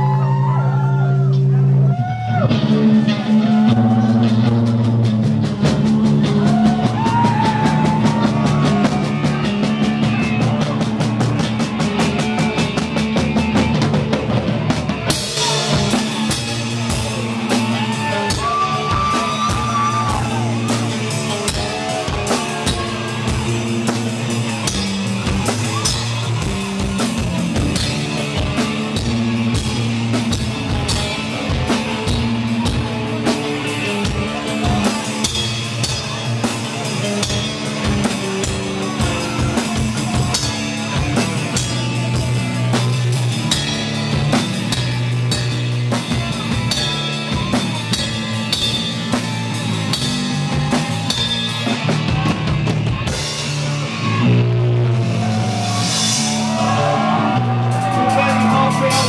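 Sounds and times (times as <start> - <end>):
distorted electric guitar: 0.0 - 59.0
drum kit fast beat: 2.4 - 59.0.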